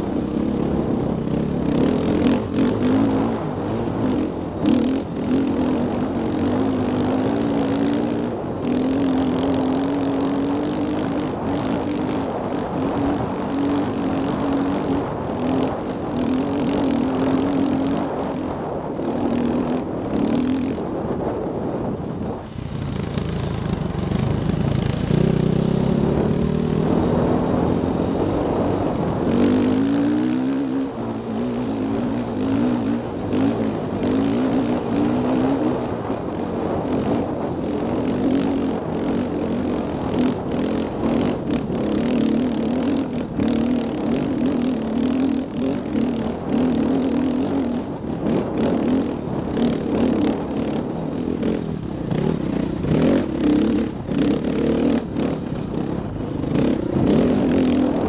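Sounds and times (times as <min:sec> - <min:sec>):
dirt bike engine revving: 0:00.0 - 0:20.9, 0:22.7 - 0:58.0.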